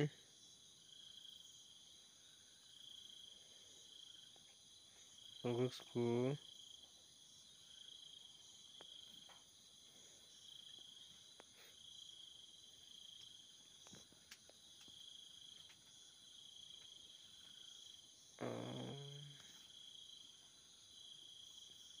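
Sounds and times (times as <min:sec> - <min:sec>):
high-pitched insect trilling: 0:00.0 - 0:22.0.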